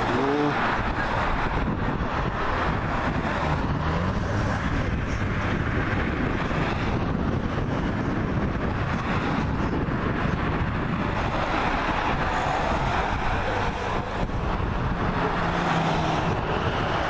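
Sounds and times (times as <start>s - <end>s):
cars driving past: 0.0s - 17.0s
wind on microphone: 0.0s - 17.0s.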